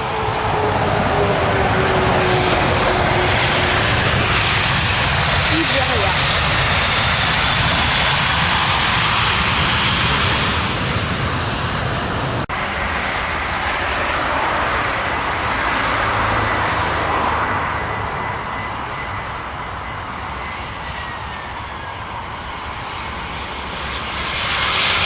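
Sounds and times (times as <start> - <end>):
high engine whine: 0.0 - 24.9
jet engines rushing: 0.0 - 25.0.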